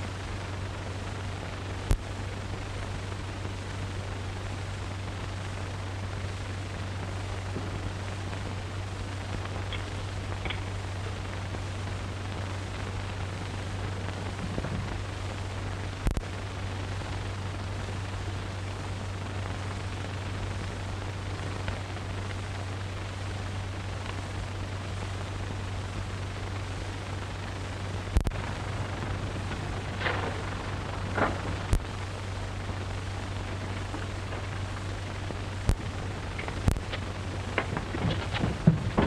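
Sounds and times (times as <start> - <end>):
film soundtrack hiss and hum: 0.0 - 39.0.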